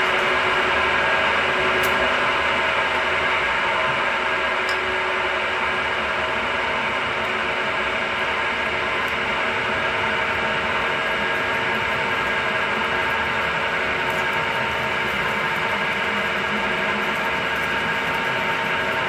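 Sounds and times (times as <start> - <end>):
spindle drive whine: 0.0 - 19.0.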